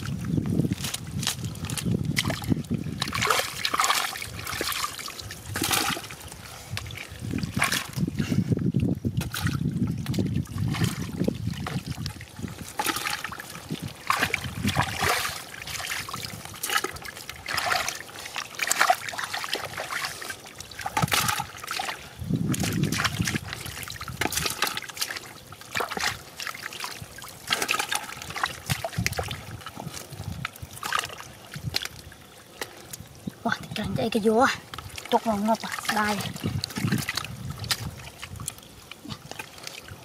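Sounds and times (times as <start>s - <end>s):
shallow water splashing and dripping: 0.0s - 40.0s.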